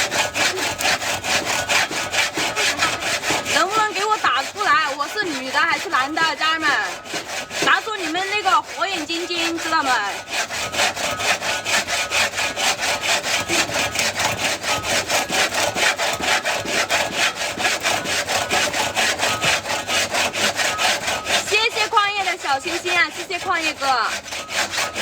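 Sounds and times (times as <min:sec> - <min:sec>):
hand saw cutting wood: 0:00.0 - 0:25.0.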